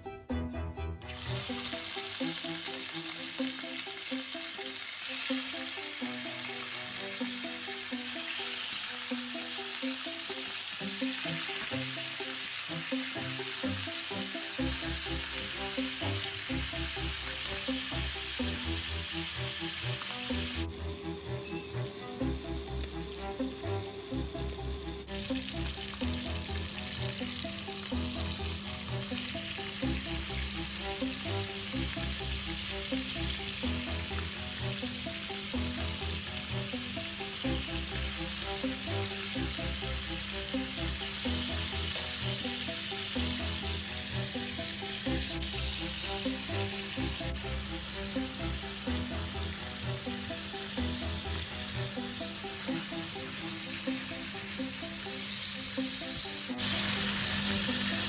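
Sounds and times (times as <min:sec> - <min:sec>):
background music: 0:00.0 - 0:58.0
chicken sizzling in frying pan: 0:01.0 - 0:58.0.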